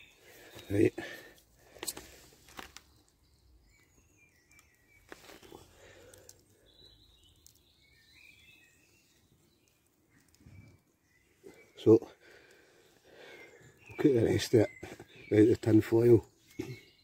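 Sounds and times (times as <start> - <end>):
faint bird chirps: 2.0 - 17.0.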